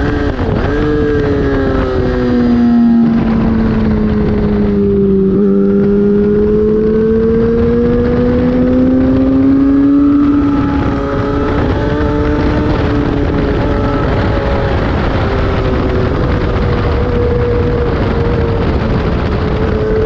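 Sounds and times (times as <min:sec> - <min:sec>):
racing motorcycle engine: 0:00.0 - 0:20.0
wind rushing over microphone: 0:00.0 - 0:20.0.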